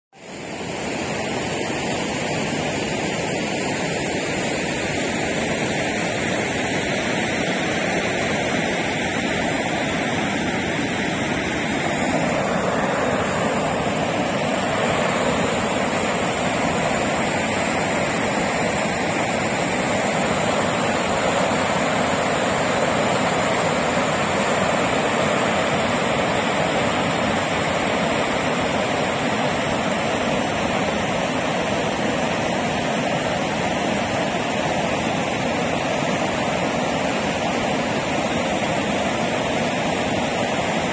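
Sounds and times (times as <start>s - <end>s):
river rushing over rocks: 0.2s - 40.9s.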